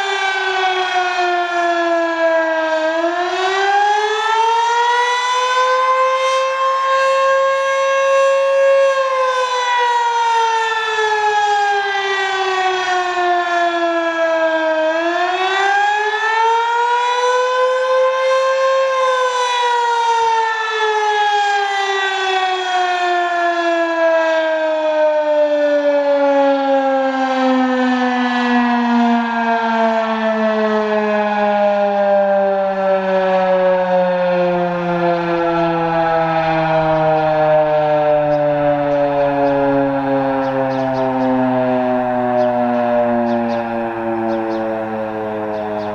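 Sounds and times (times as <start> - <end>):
warning siren rising and falling: 0.0 - 45.9.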